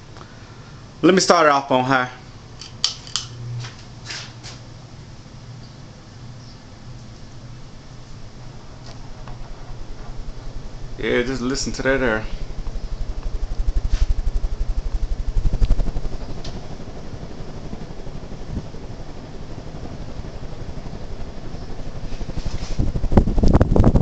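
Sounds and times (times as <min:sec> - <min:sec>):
ceiling fan running: 0:00.0 - 0:24.0.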